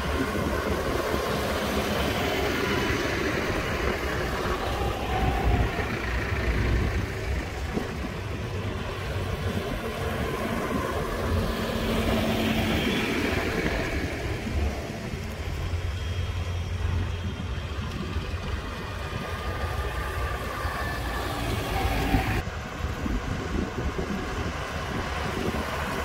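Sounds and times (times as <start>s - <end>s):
tractor engines droning: 0.0s - 26.0s.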